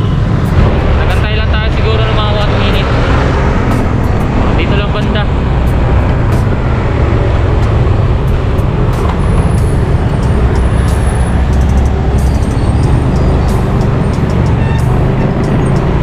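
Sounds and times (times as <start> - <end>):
motorcycle engine rumble: 0.0 - 16.0
road traffic: 0.0 - 16.0.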